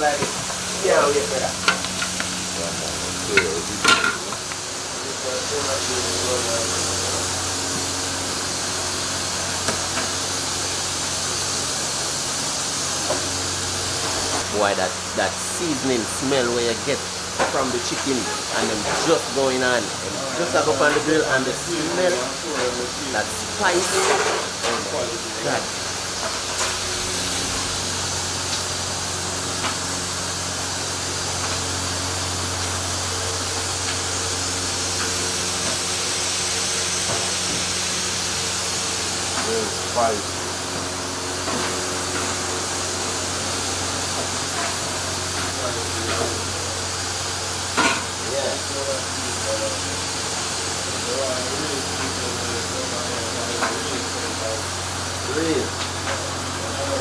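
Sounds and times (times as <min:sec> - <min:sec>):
chicken sizzling on a grill: 0:00.0 - 0:57.0.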